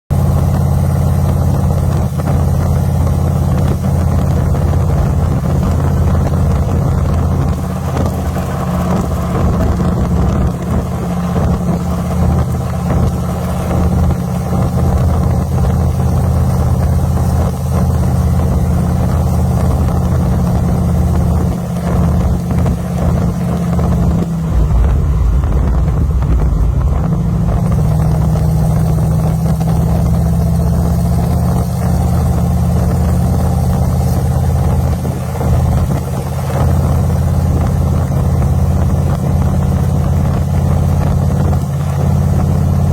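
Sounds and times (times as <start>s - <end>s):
car engine and road drone: 0.0s - 42.9s
wind buffeting microphone: 0.2s - 42.9s.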